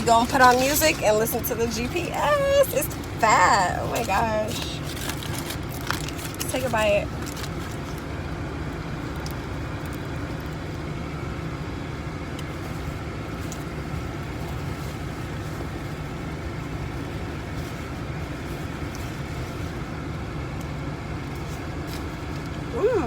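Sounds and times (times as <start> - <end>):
car engine rumble: 0.0 - 23.0
road noise inside car: 0.0 - 23.0.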